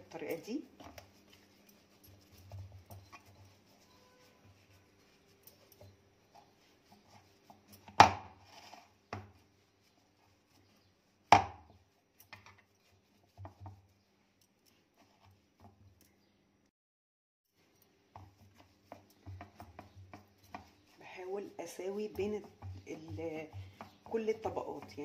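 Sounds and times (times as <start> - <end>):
dough rustling: 0.0 - 16.3, 17.5 - 25.0.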